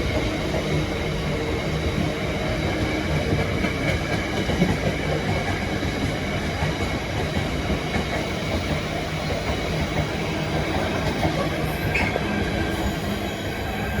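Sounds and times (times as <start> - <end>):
freight train rumble: 0.0 - 14.0.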